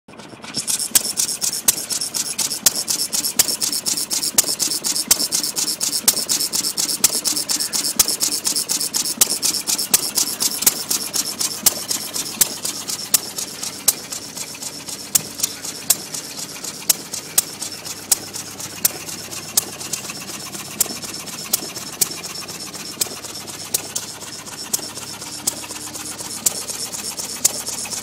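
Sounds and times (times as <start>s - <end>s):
mechanical clicks: 0.4s - 28.0s.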